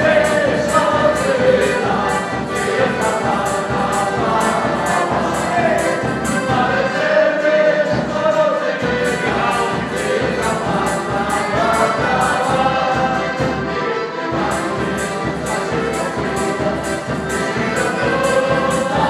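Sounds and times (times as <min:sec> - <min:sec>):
folk band with accordions: 0:00.0 - 0:19.0.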